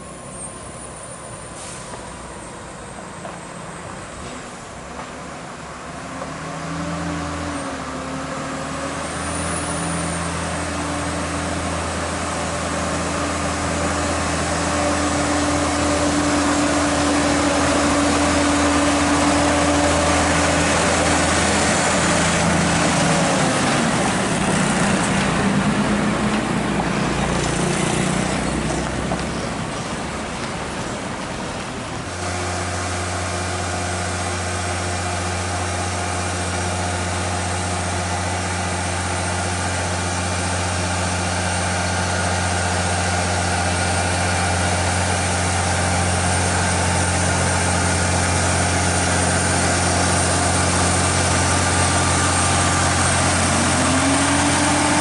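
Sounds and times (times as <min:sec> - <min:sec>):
truck diesel engine passing: 0:00.0 - 0:55.0
tyre and road noise: 0:00.0 - 0:55.0.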